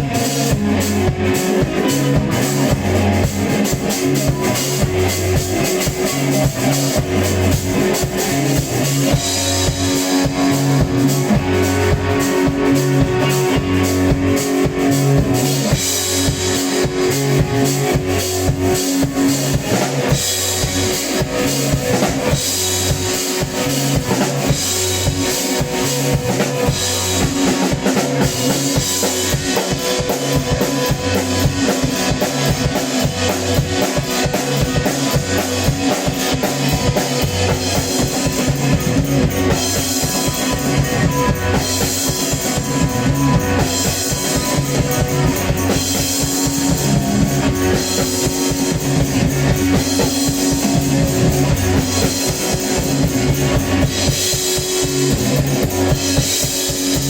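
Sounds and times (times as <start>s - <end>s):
drum kit beat: 0.0s - 57.0s
rock band playing: 0.0s - 57.0s.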